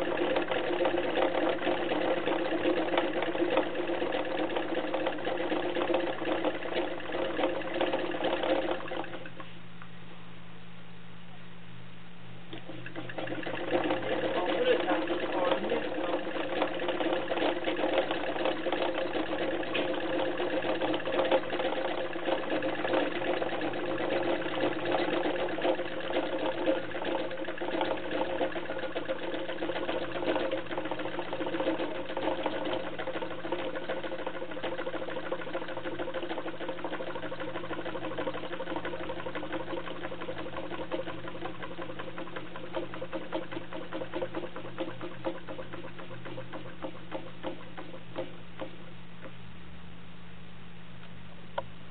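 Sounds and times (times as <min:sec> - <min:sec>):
small engine mechanical rattle: 0:00.0 - 0:09.4, 0:12.5 - 0:48.8.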